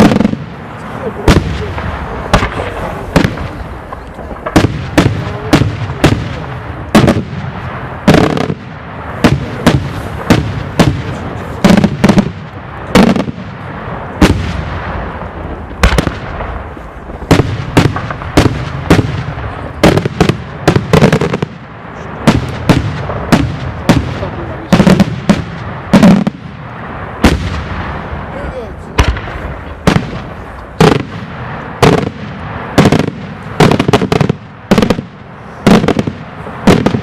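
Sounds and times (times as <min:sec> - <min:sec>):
echoing rumble: 0:00.0 - 0:37.0.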